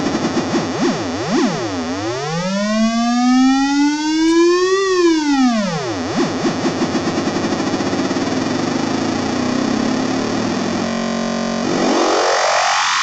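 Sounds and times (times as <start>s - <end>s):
buzzy synthesizer tone swooping: 0.1s - 13.0s.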